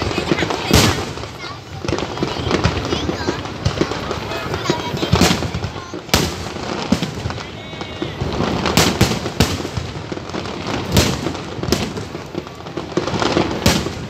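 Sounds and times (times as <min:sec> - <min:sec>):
firework bangs: 0:00.0 - 0:14.0
fireworks crackle and rumble: 0:00.0 - 0:14.0.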